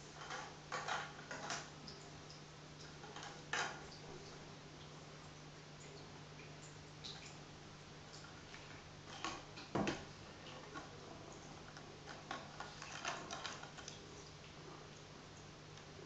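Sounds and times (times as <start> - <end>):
faint steady low hum: 0.0 - 16.0.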